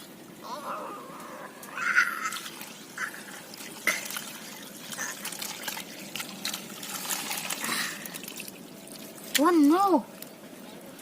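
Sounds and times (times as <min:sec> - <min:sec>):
water splashing and dripping: 0:01.2 - 0:11.0.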